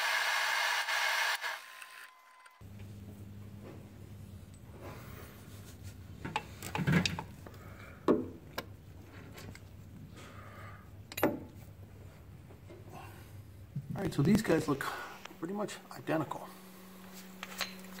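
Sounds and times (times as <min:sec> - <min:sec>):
steady low hum: 0:02.6 - 0:18.0.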